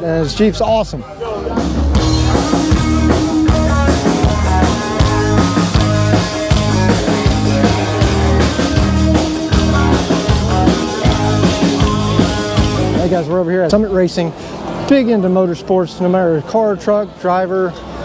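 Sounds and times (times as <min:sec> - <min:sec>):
rock band playing live: 0:00.0 - 0:14.9.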